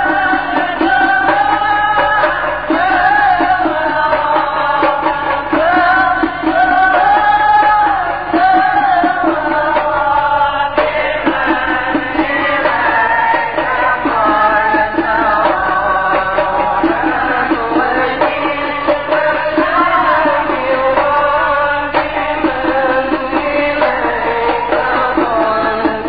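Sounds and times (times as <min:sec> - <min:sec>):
music: 0:00.0 - 0:26.0.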